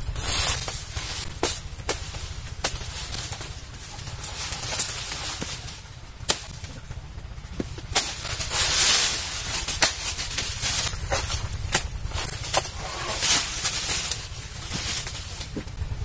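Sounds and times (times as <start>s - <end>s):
rustling: 0.0s - 16.0s
machete chopping plant trunk: 0.1s - 6.8s, 7.6s - 15.8s.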